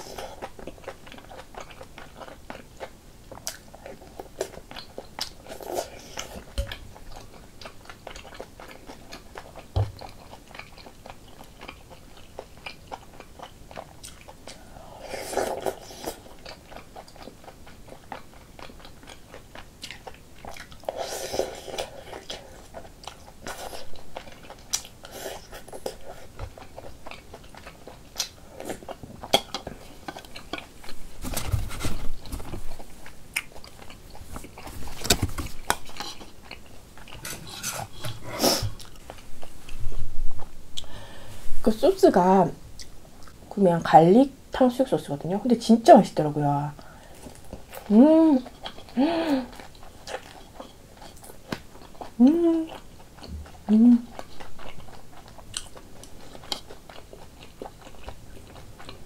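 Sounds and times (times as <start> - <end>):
chewing and biting food: 0.1 - 14.7, 15.3 - 40.9, 47.1 - 59.0.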